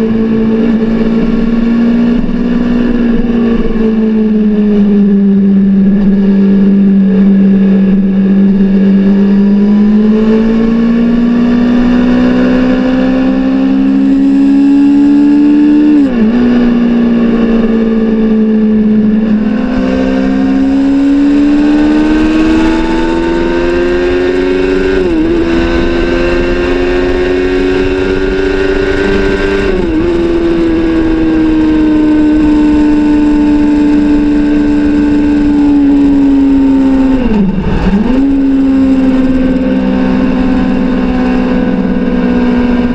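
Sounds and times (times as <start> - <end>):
motorcycle exhaust running loud: 0.0 - 42.9.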